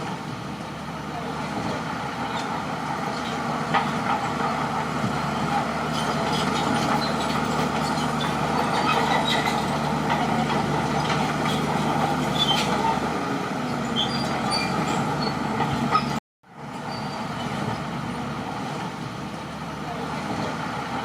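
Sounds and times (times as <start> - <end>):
bulldozer diesel engine running: 0.0 - 21.0
steel tracks clanking: 1.3 - 19.2.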